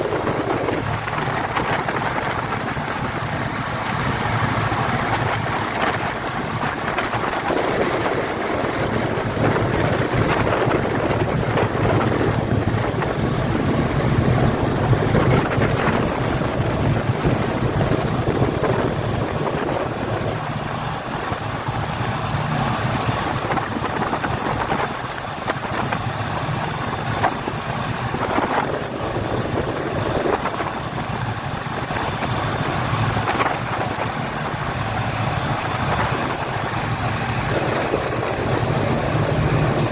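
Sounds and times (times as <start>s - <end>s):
speedboat engine running: 0.0s - 39.9s
wind buffeting microphone: 0.0s - 39.9s.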